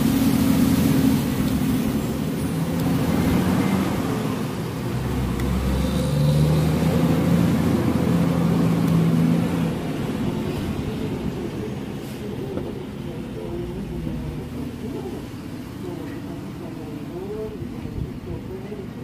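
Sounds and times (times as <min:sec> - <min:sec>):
vehicle engine droning: 0:00.0 - 0:17.5.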